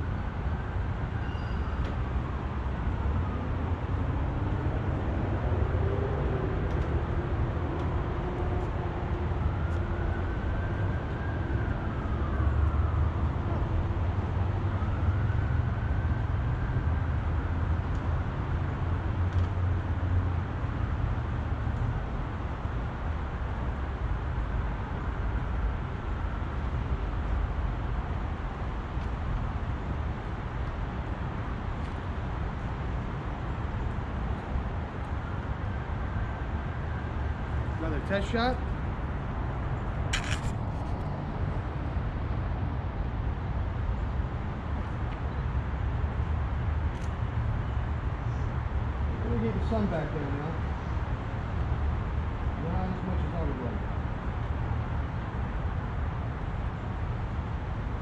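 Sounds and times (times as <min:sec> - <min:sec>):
vehicles passing by: 0:01.8 - 0:58.0.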